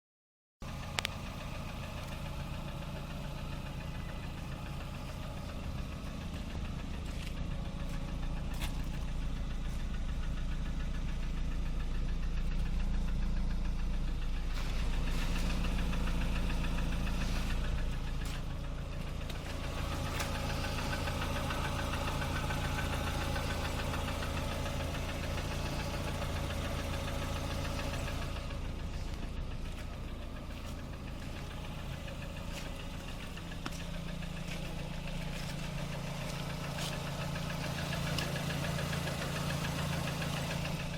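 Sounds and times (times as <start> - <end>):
car engine running: 0.6 - 40.9
rapid engine knocking: 0.6 - 40.9.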